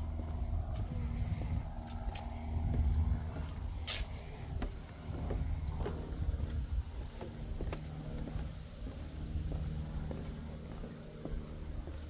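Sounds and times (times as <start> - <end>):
footsteps on wooden boards: 0.0 - 12.0
steady low rumble: 0.0 - 12.0.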